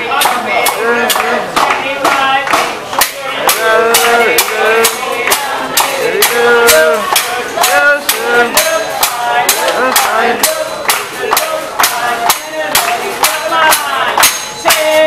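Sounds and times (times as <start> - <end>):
man singing: 0.0 - 15.0
people clapping along: 0.0 - 15.0.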